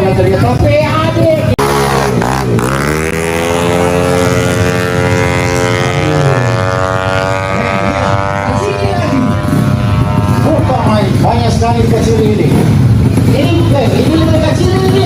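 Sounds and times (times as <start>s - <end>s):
scooter engine at full throttle: 0.0s - 15.0s.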